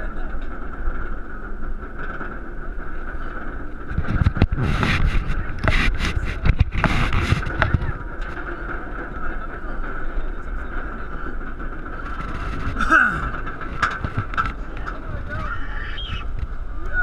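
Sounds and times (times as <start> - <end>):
chain lift hum and rumble: 0.0 - 17.0
rustling and knocks: 0.3 - 15.6.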